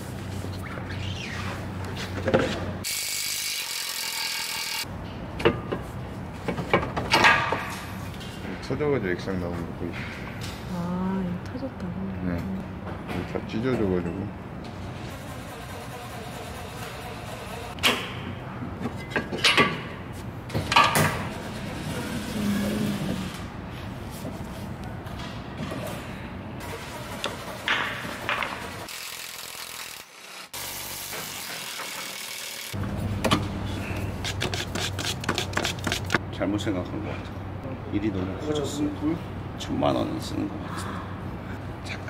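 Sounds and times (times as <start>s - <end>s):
workshop background noise: 0.0s - 42.0s.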